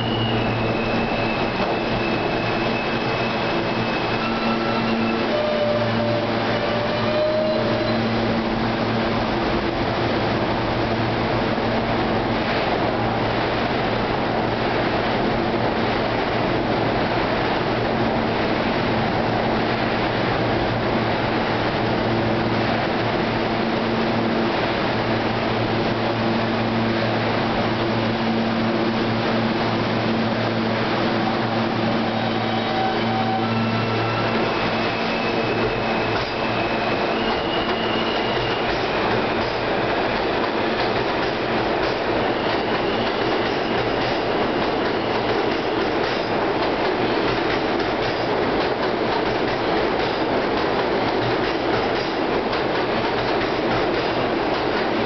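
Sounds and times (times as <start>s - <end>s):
train equipment hum: 0.0s - 55.0s.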